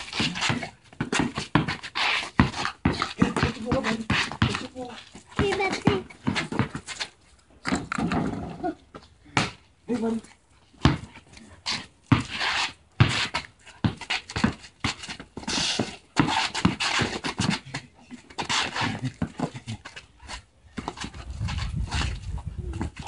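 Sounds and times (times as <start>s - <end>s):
paws scuffling on concrete: 0.0s - 9.1s, 9.9s - 23.0s.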